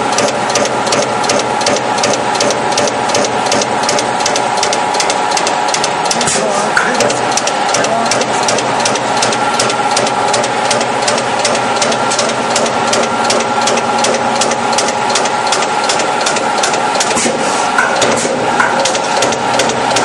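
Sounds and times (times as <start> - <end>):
punch press striking metal sheet: 0.0 - 20.0
steady machine hum: 0.0 - 20.0.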